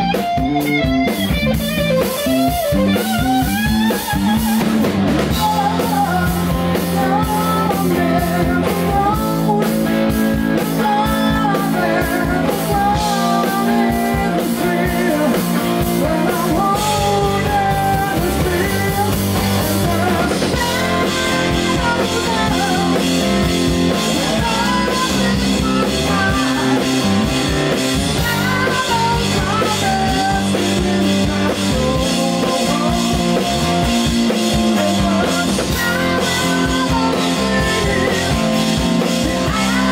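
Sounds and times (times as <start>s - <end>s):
distorted electric guitar: 0.0s - 39.9s
drum kit beat: 0.0s - 39.9s
electric bass: 0.0s - 39.9s
man singing: 5.3s - 39.9s.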